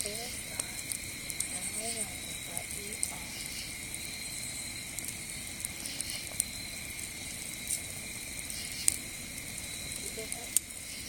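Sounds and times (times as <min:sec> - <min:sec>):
campfire crackling and popping: 0:00.0 - 0:11.0
crickets chirping: 0:00.0 - 0:11.0.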